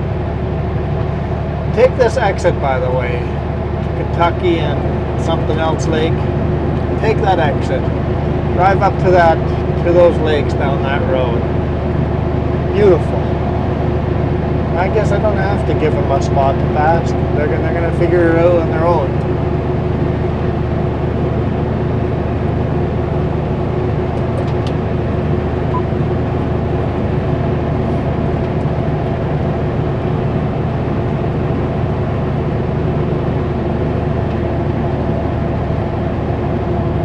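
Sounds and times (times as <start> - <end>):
road noise: 0.0 - 37.0
truck diesel engine drone: 0.0 - 37.0.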